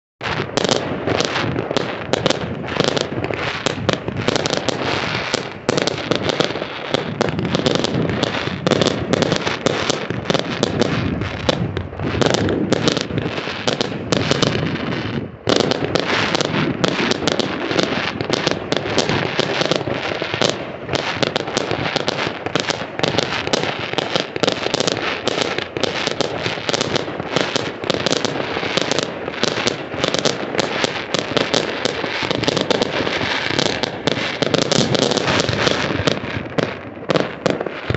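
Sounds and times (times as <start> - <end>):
fireworks bangs and crackles: 0.2 - 37.9.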